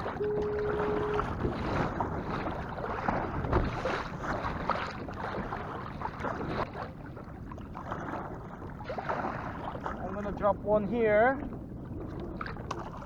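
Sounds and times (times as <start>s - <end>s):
water slapping against kayak hull: 0.0s - 10.4s, 11.4s - 13.0s
wind buffeting microphone: 0.0s - 13.0s.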